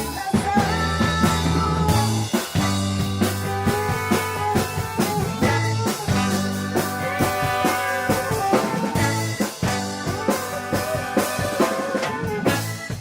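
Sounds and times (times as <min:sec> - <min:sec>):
bass notes: 0:00.0 - 0:13.0
drum kit beat: 0:00.0 - 0:13.0
guitar playing: 0:01.8 - 0:13.0.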